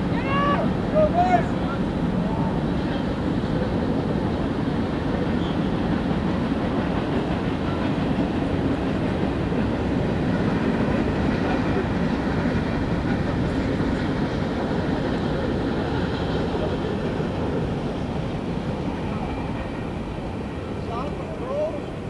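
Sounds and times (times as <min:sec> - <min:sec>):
freight train cars rolling: 0:00.0 - 0:22.0.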